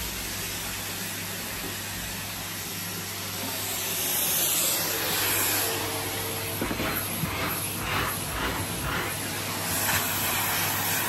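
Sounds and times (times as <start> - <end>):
vacuum cleaner suction hiss: 0.0 - 11.0
vacuum motor hum: 0.0 - 11.0.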